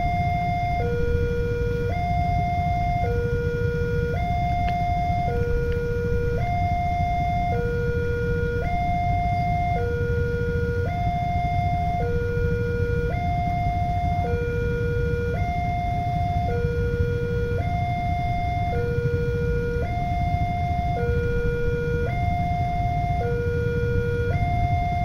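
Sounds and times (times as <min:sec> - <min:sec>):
low rumbling noise: 0:00.0 - 0:25.0
two-tone crossing alarm: 0:00.0 - 0:25.0.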